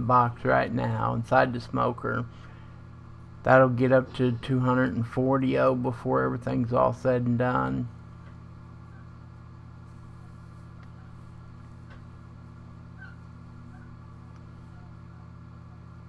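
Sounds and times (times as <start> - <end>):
electrical hum and buzz: 0.0 - 16.0.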